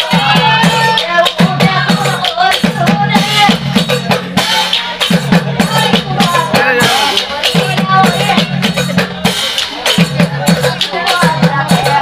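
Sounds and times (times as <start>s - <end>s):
woman singing: 0.0s - 8.8s, 10.2s - 12.0s
drum strokes: 0.0s - 12.0s
rattling percussion: 0.0s - 12.0s.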